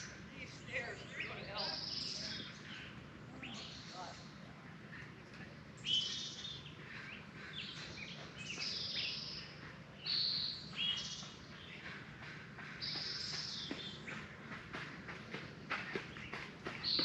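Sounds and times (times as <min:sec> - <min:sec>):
songbirds chirping and calling: 0:00.0 - 0:17.0
steady low hum: 0:00.0 - 0:17.0.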